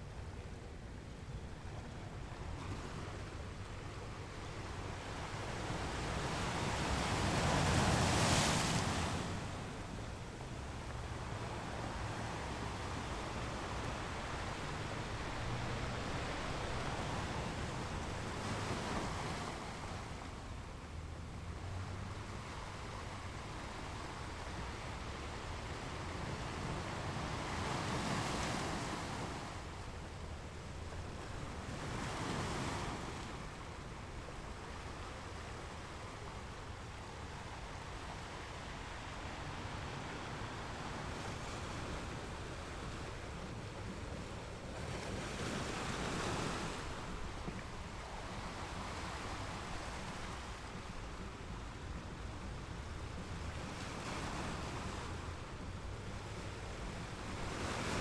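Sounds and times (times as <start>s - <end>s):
ocean waves washing onto shore: 2.4s - 58.0s.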